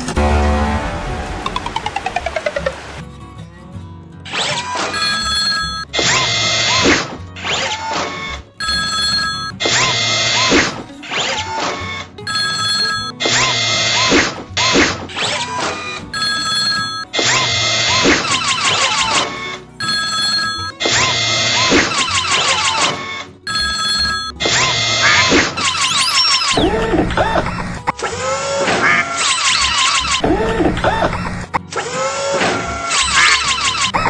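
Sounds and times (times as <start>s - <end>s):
background music: 0.0s - 34.0s.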